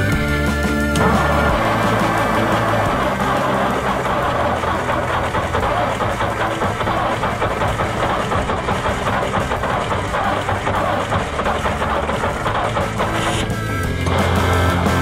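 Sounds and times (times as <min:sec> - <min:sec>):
truck engine cranking on starter: 0:00.2 - 0:15.0.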